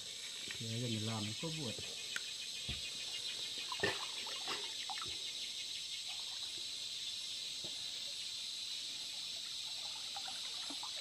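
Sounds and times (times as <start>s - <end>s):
forest insects chirring: 0.0s - 11.0s.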